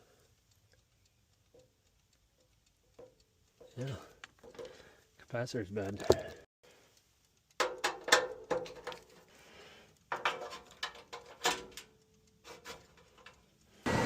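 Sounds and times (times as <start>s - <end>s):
small clicks and taps of parts: 0.0s - 13.8s.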